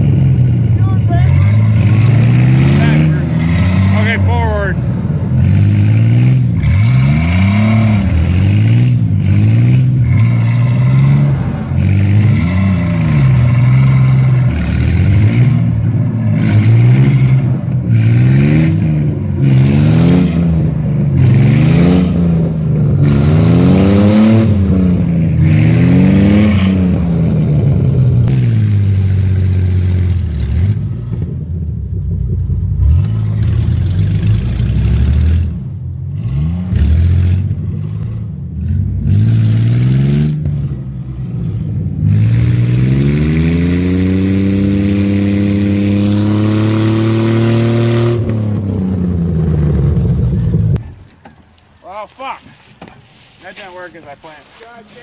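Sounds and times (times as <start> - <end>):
truck engine revving: 0.0 - 54.8.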